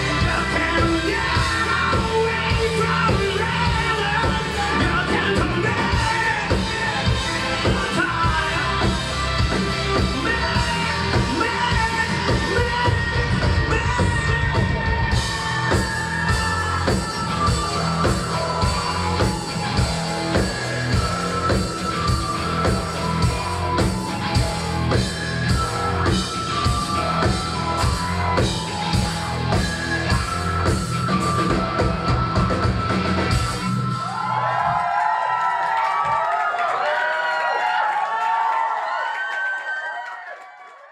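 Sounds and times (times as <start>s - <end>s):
rock band playing: 0.0s - 34.8s.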